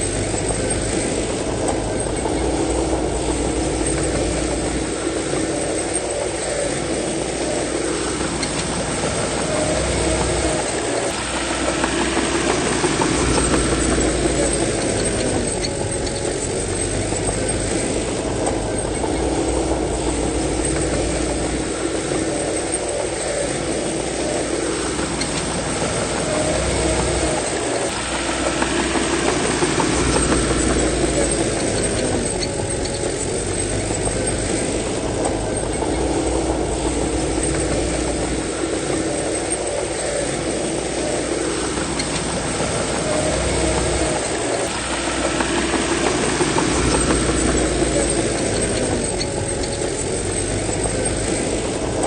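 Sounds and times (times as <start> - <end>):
heavy diesel machinery engine: 0.0 - 52.0.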